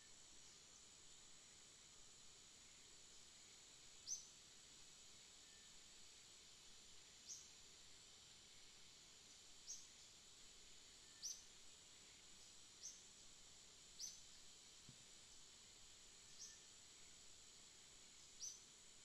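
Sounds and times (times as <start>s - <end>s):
faint high hiss: 0.0s - 19.0s.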